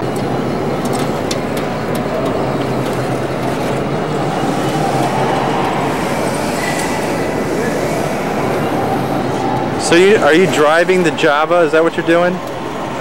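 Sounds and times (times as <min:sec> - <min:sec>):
low hum: 0:00.0 - 0:11.2
din of busy exhibition hall: 0:00.0 - 0:13.0.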